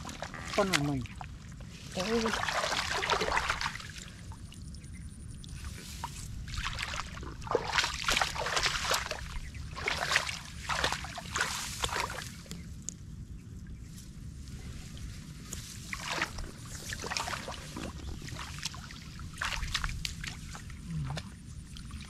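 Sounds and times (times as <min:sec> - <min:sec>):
water splashing and sloshing: 0:00.0 - 0:13.0, 0:13.6 - 0:22.0
steady low rumble: 0:00.0 - 0:22.0.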